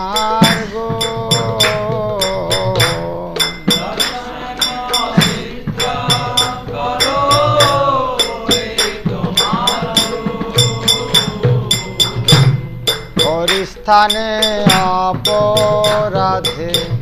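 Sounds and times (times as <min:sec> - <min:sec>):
drum strokes: 0:00.0 - 0:17.0
hand cymbals clinking: 0:00.0 - 0:17.0.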